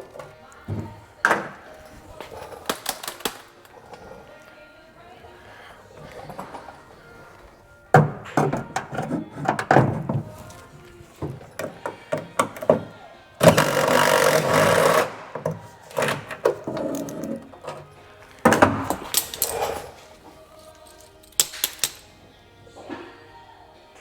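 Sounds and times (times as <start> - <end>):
hand tools knocking metal: 0.0 - 22.1.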